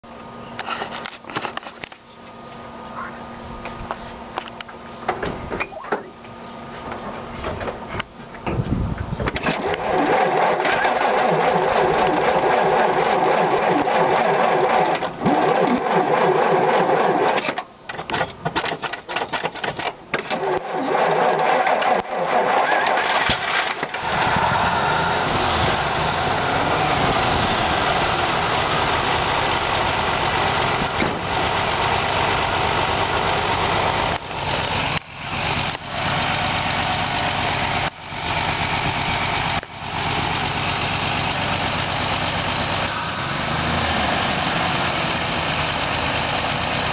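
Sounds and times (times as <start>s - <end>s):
engine misfiring and running rough: 6.7s - 46.9s.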